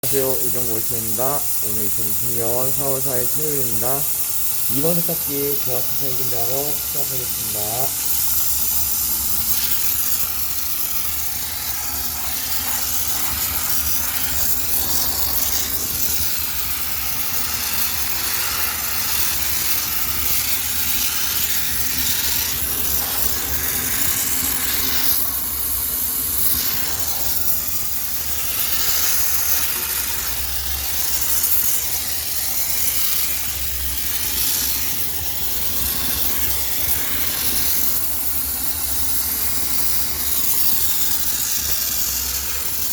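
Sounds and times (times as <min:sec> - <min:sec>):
steam cleaner hissing: 0:00.0 - 0:42.9.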